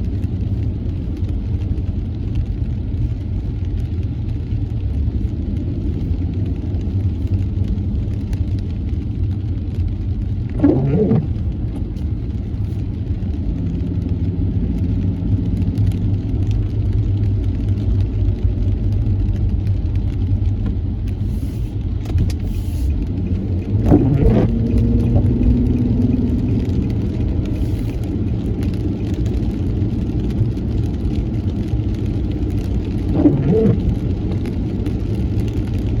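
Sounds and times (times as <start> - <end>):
engine and road noise rumble: 0.0 - 36.0.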